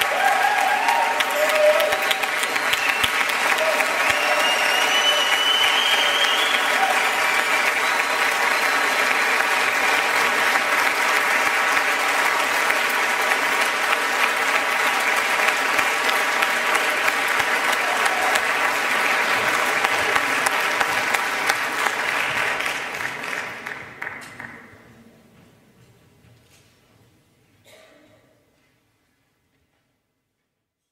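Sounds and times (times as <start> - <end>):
audience applauding: 0.0 - 24.9.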